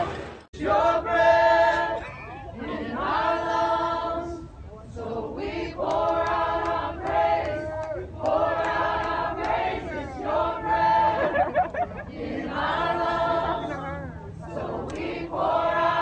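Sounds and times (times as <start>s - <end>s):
crowd singing unaccompanied: 0.6s - 16.0s.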